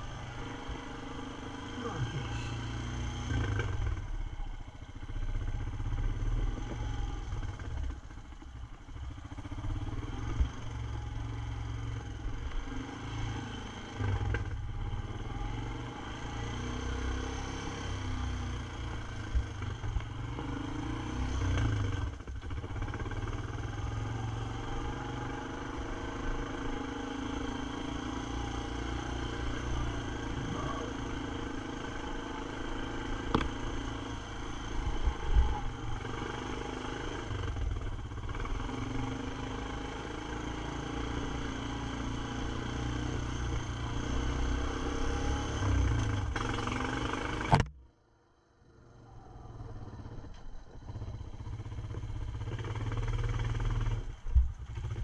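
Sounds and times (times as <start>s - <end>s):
atv engine revving: 0.0s - 4.4s, 9.0s - 47.7s, 48.8s - 55.0s.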